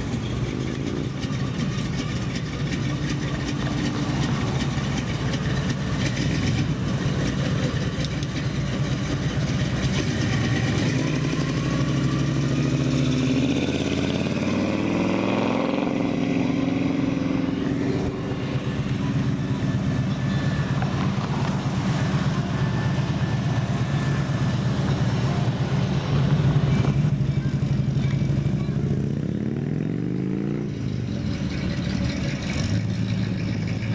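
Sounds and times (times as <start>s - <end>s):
car engines driving slowly: 0.0s - 33.9s.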